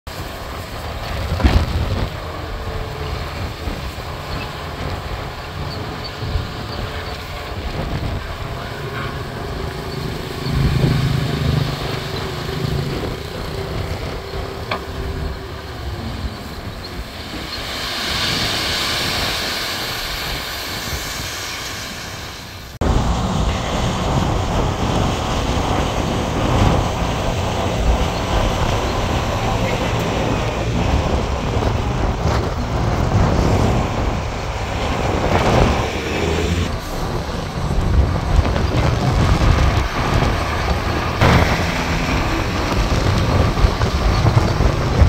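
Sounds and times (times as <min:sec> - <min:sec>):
heavy diesel machinery running: 0:00.1 - 0:45.0
hissing rush: 0:00.1 - 0:45.0.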